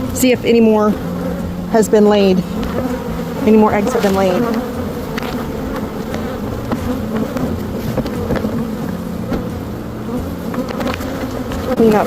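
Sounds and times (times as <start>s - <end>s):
honey bees buzzing: 0.0s - 12.0s.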